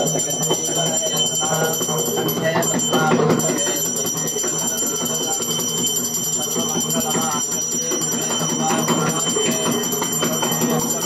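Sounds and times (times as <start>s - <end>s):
hand bell ringing rapidly: 0.0s - 11.0s
voices or music: 0.0s - 11.0s.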